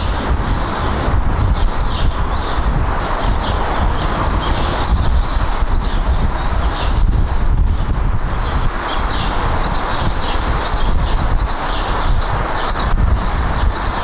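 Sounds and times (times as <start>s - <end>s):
small birds chirping: 0.0s - 14.0s
wind on the microphone: 0.0s - 14.0s.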